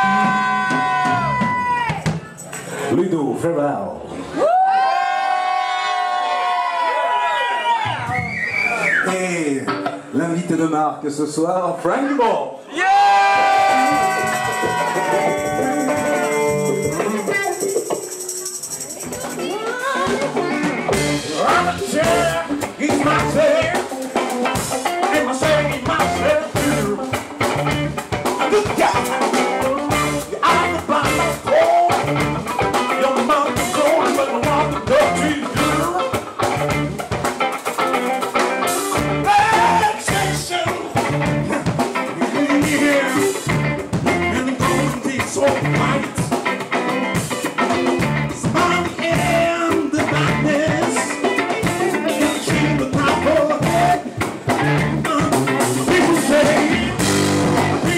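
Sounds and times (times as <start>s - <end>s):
funk band playing live: 0.0s - 2.9s, 7.9s - 10.6s, 12.8s - 57.9s.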